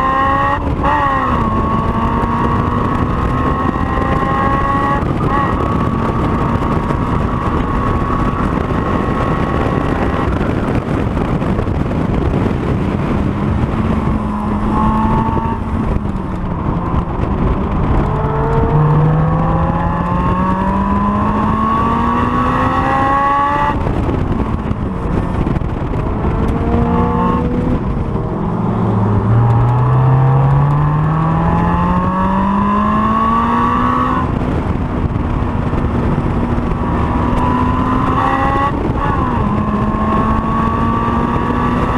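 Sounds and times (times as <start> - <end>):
car engine accelerating hard: 0.0 - 41.9
engine throttle blips: 0.0 - 41.9
wind and road noise: 0.0 - 41.9.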